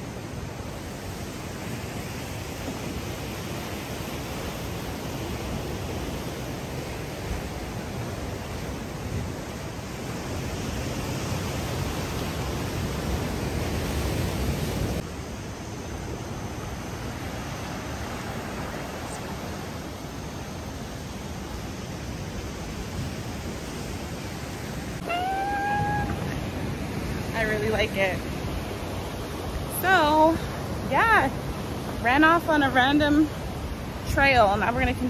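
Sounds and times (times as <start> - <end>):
ocean surf breaking on rocks: 0.0 - 35.0.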